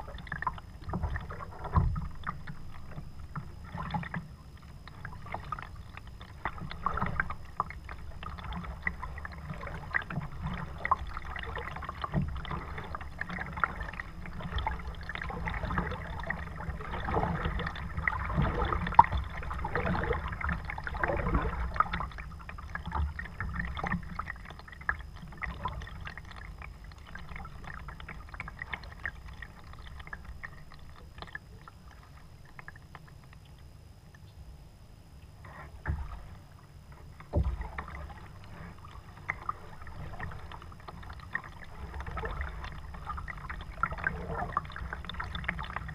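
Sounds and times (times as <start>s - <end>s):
paddle splashing in water: 0.0s - 32.1s, 35.5s - 45.9s
water washing along hull: 0.0s - 33.3s, 35.4s - 45.9s.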